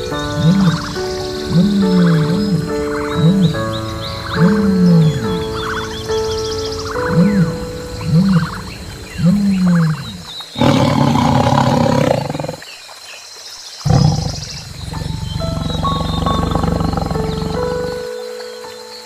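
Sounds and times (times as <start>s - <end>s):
background music: 0.0s - 12.5s, 14.0s - 19.0s
large animal calling: 0.1s - 6.2s, 6.9s - 12.6s, 13.9s - 18.0s.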